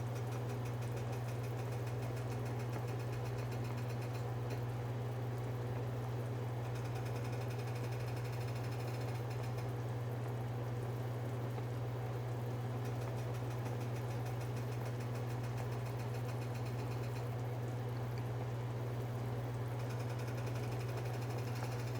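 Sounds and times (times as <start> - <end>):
pot boiling and bubbling: 0.1 - 21.9.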